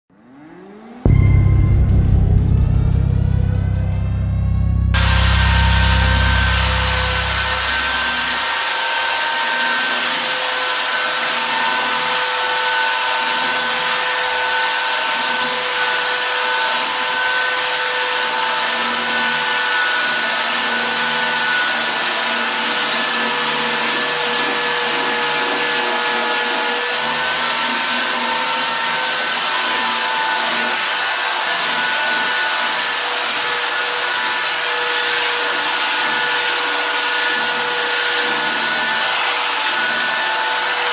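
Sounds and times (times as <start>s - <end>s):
electric sander on wood: 4.9s - 40.9s.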